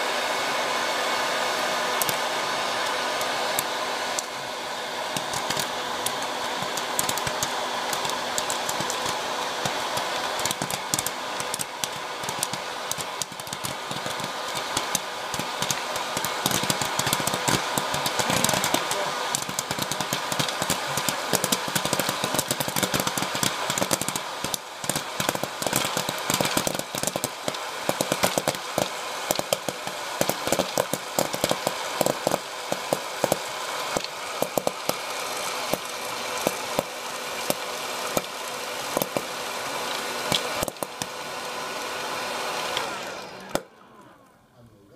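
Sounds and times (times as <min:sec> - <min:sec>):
popcorn maker fan blowing: 0:00.0 - 0:44.9
popcorn kernels popping: 0:01.4 - 0:44.1
popcorn rattling in chamber: 0:05.1 - 0:41.2.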